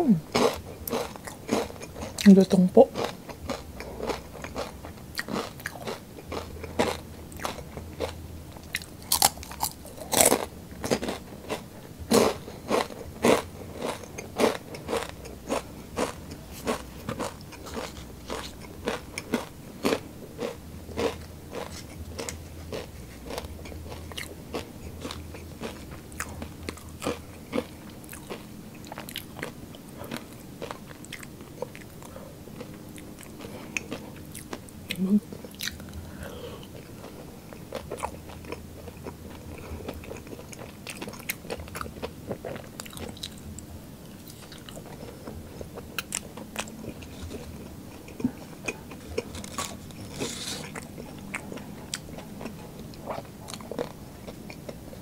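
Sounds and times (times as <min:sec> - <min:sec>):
chewing and crunching food: 0:00.2 - 0:55.0.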